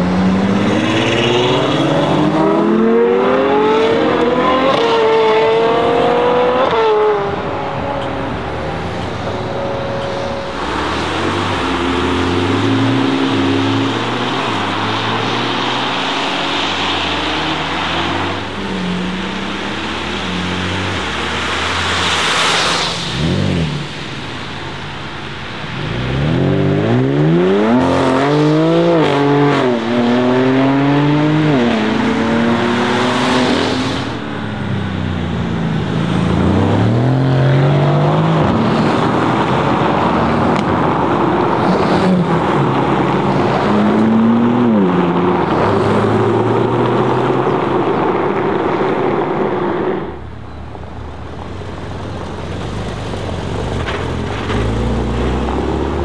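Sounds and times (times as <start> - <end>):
car engine accelerating hard: 0.0 - 24.2, 25.7 - 50.3, 52.2 - 56.0
car rushing past: 0.0 - 56.0.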